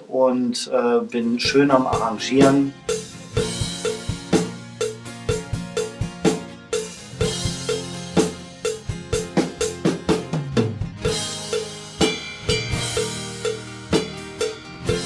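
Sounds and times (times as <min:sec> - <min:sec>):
other instruments: 0:01.4 - 0:15.0
rock drum beat: 0:01.4 - 0:15.0
cymbals washing: 0:01.5 - 0:09.8, 0:11.0 - 0:15.0.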